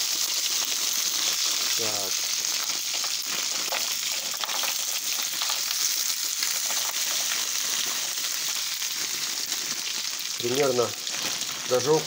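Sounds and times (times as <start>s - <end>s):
dumplings sizzling in butter: 0.0s - 12.0s.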